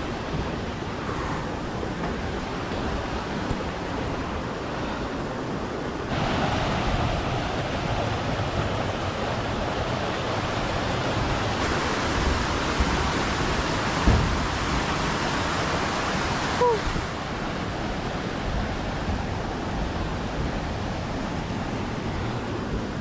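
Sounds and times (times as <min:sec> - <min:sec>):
waterfall stream rushing: 0:02.4 - 0:22.6.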